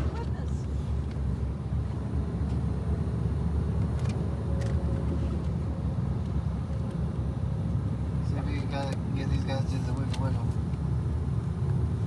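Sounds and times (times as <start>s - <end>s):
road and engine rumble inside car: 0.0s - 12.0s.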